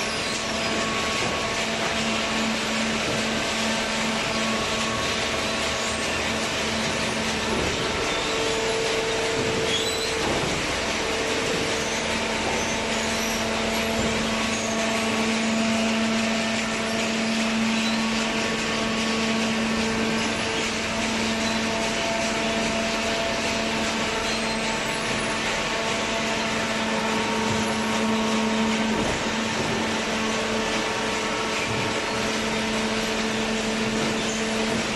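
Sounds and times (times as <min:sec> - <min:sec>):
baler machine humming: 0:00.0 - 0:34.9.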